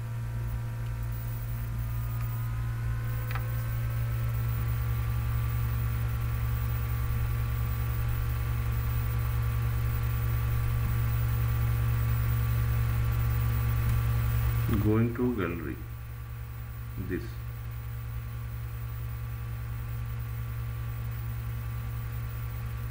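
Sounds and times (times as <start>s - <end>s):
low electrical hum: 0.0s - 22.9s.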